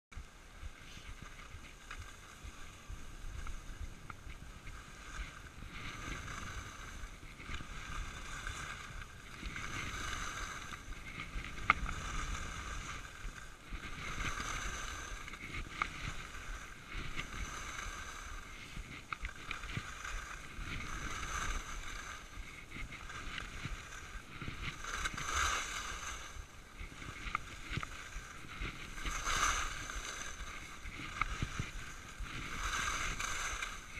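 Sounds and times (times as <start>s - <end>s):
skis scraping over snow: 0.2s - 33.9s.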